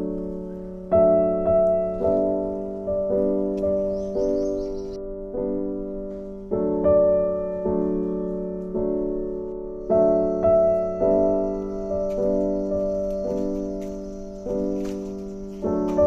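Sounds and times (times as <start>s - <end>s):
slow gentle piano chords: 0.0s - 16.0s.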